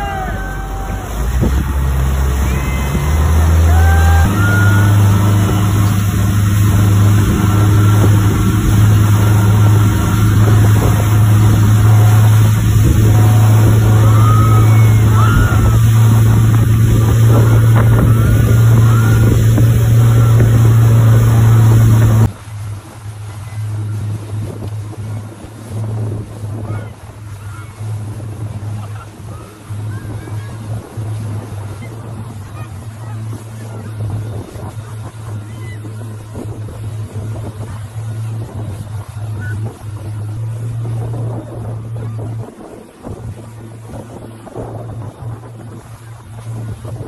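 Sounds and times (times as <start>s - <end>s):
churning wake water: 0.0s - 47.0s
outboard motor running: 0.0s - 47.0s
wind: 0.0s - 47.0s.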